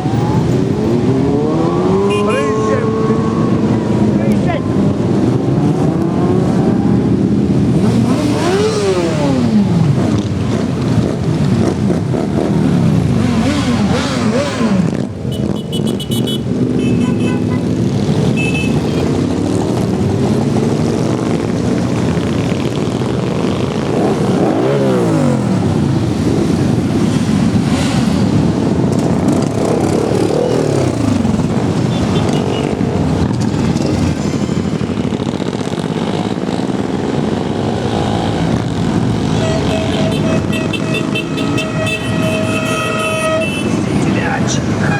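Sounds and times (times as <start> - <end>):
motorcycle engines revving past: 0.0 - 44.9.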